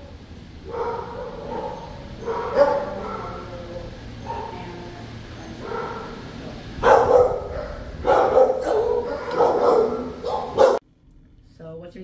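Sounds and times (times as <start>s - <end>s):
dogs barking: 0.6s - 10.8s.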